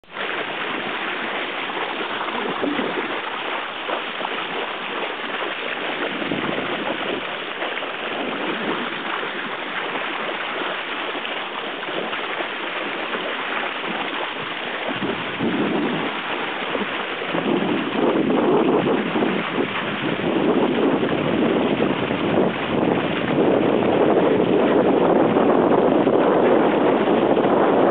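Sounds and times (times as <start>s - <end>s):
water splashing along boat bow: 0.0s - 27.9s
wind buffeting microphone: 0.1s - 27.9s.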